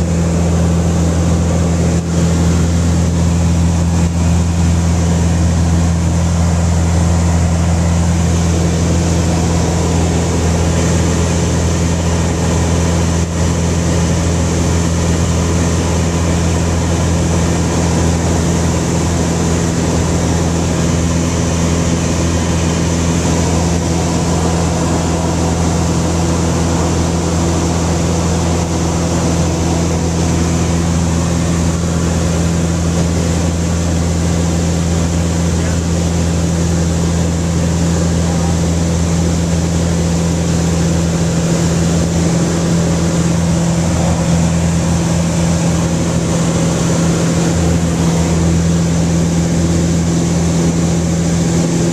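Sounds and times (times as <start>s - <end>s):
propeller plane engine drone: 0.0s - 51.9s.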